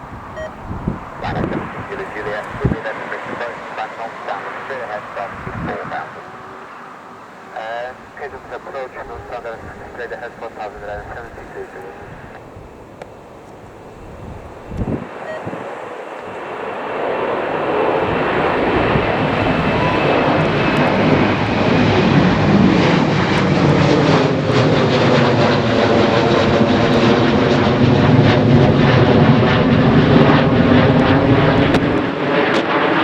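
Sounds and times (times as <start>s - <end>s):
airliner engines: 0.0s - 33.0s.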